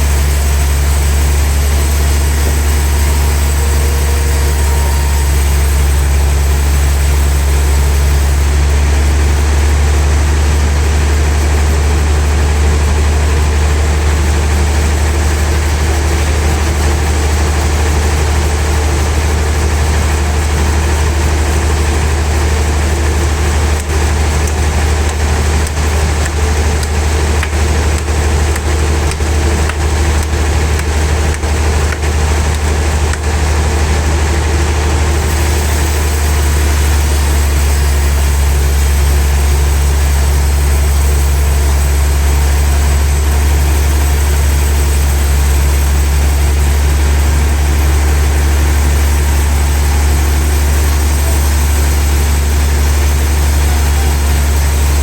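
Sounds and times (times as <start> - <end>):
log saw humming: 0.0 - 13.1, 13.7 - 55.0.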